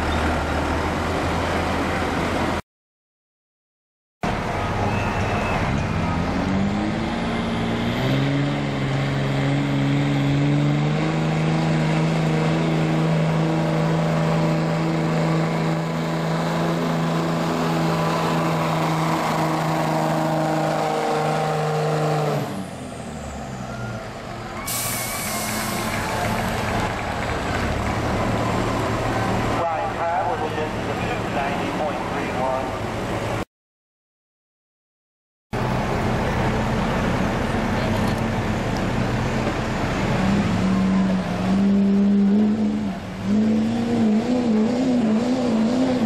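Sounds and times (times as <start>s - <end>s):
diesel engine revving: 4.2s - 33.4s, 35.6s - 46.0s.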